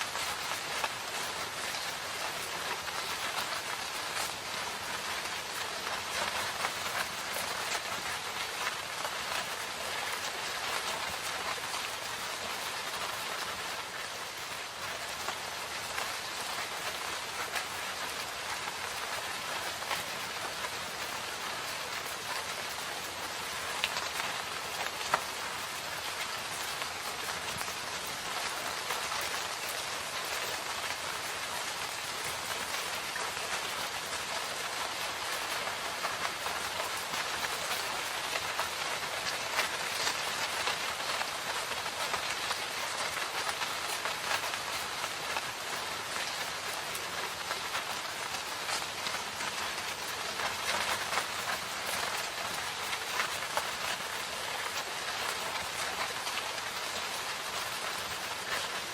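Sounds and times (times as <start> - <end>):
rain hiss: 0.0 - 58.9
raindrops pattering: 0.0 - 58.9.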